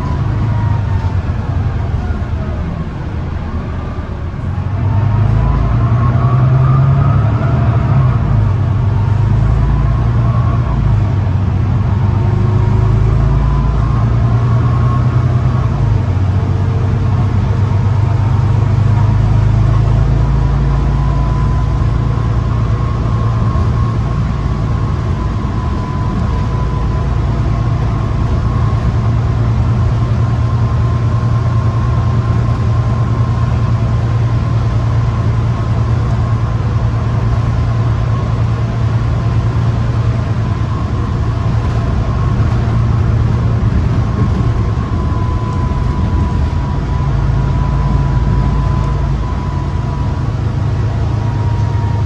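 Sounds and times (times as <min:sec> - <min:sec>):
bus diesel engine running: 0:00.0 - 0:52.0
thin steady whine: 0:06.6 - 0:52.0.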